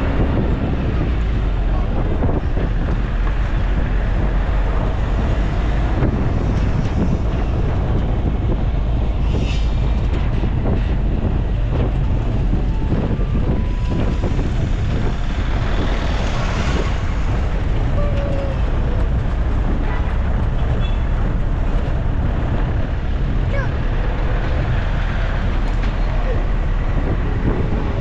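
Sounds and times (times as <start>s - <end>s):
vehicle rumble from inside: 0.0s - 28.0s
wind noise on microphone: 0.0s - 28.0s.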